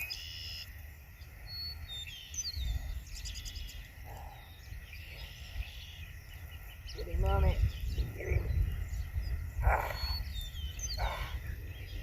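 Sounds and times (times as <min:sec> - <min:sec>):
birds chirping and whistling: 0:00.0 - 0:12.0
wind rumble on microphone: 0:00.8 - 0:12.0.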